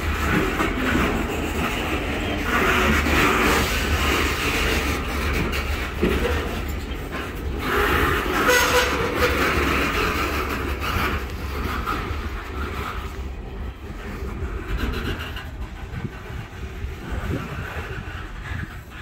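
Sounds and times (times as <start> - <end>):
freight train wheels on rails: 0.0 - 19.0
train knocks: 0.0 - 19.0.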